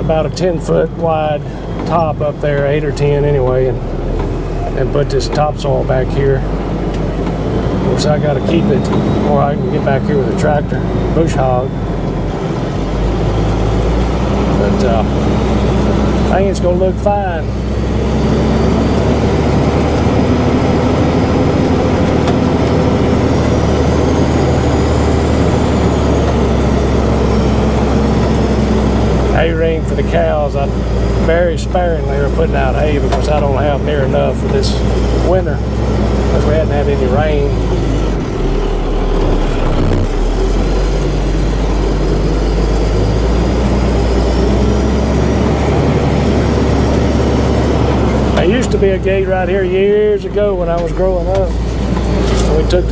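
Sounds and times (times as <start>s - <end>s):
dump truck engine rumbling: 0.0s - 52.9s.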